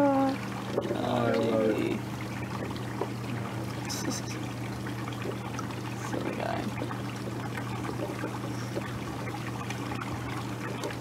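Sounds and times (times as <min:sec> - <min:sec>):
hot tub jets bubbling: 0:00.0 - 0:11.0.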